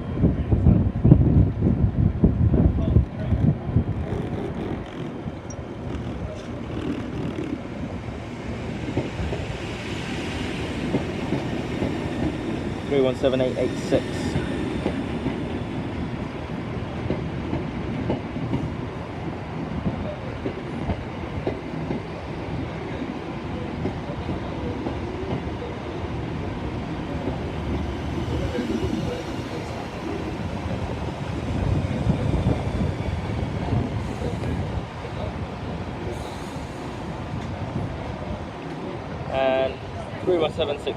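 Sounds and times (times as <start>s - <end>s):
wind buffeting microphone: 0.0s - 22.9s, 26.1s - 39.3s
electric train moving: 3.3s - 40.6s.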